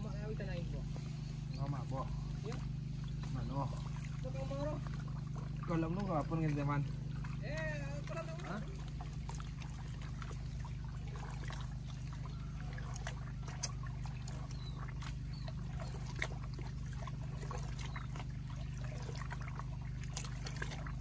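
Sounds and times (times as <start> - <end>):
small engine droning: 0.0 - 21.0
small splashes: 0.0 - 21.0
water sloshing and trickling: 0.0 - 21.0.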